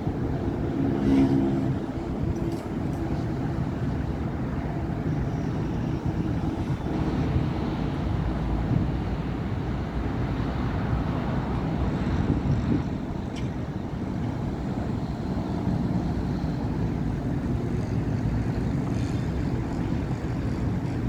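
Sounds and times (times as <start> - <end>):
city traffic rumble: 0.0 - 21.0
pitched engine hum: 0.0 - 21.0.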